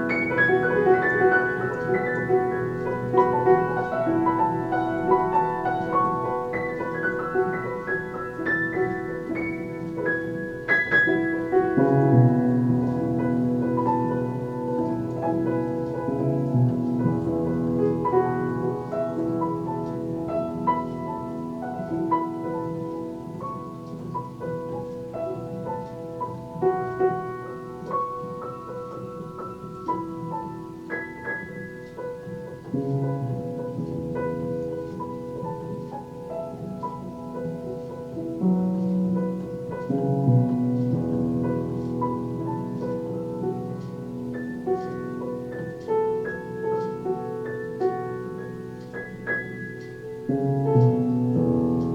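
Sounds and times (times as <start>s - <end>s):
slow keyboard tune: 0.0s - 51.9s.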